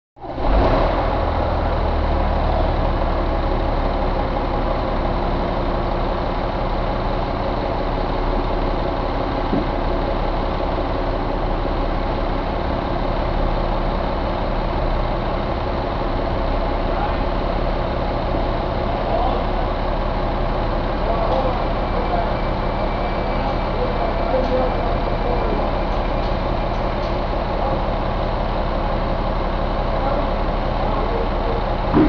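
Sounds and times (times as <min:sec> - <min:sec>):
diesel engine running: 0:00.2 - 0:32.0.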